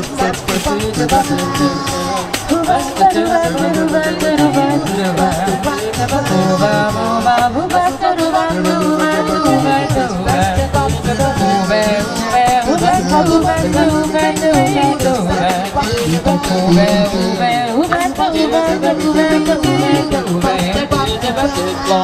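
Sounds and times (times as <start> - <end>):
quick rattling rhythm: 0.0 - 22.0
voices singing in harmony: 0.0 - 22.0.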